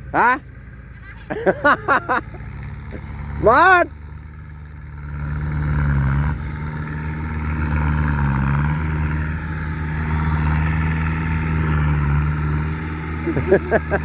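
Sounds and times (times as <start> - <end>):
large vehicle engine running: 0.0 - 14.0.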